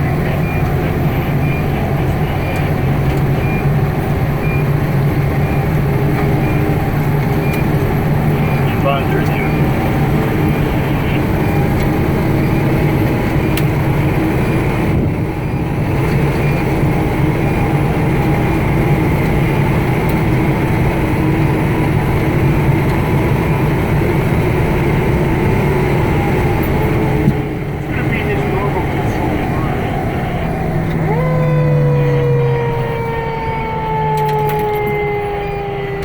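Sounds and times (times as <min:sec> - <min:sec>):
diesel engine drone: 0:00.0 - 0:36.0
road noise: 0:00.0 - 0:36.0.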